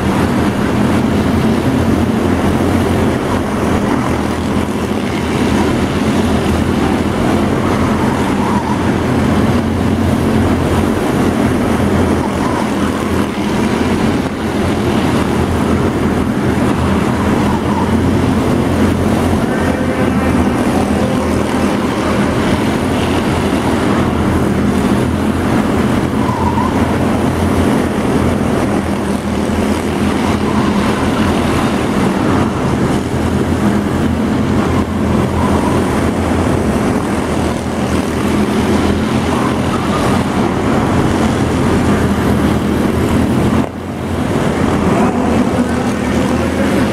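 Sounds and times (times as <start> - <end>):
race car engines roaring: 0.0 - 46.9.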